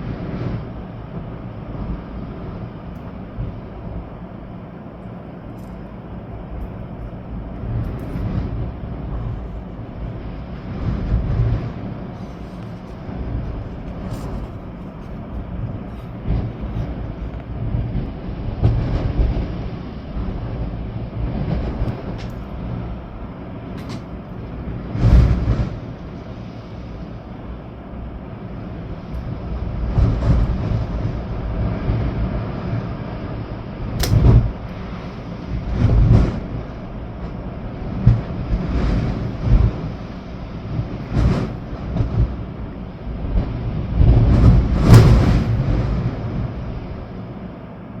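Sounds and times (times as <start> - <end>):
wind and rain rushing: 0.0 - 48.0
wind gusts buffeting microphone: 0.0 - 48.0.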